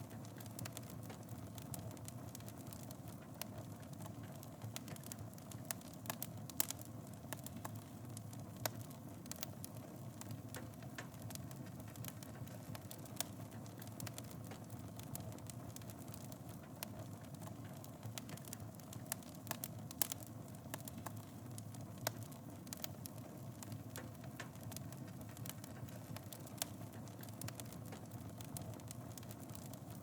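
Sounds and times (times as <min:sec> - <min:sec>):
fire crackling and popping: 0:00.0 - 0:30.0
low rumble of flames: 0:00.1 - 0:30.0.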